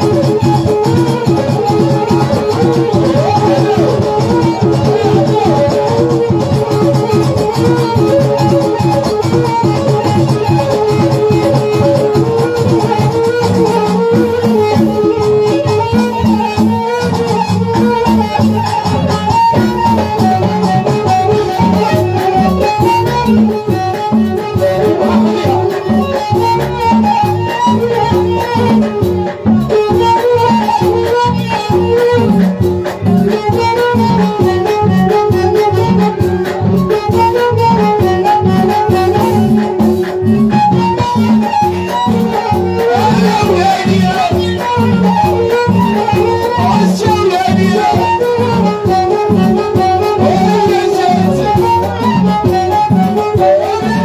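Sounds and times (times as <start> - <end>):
driving percussion beat: 0.0 - 54.0
wavering keyboard melody: 0.0 - 54.0.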